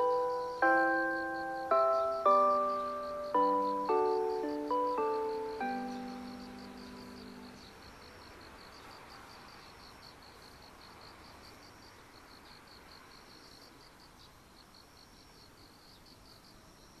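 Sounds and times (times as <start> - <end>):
high insect trill: 0.0 - 17.0
insects chirping: 0.0 - 17.0.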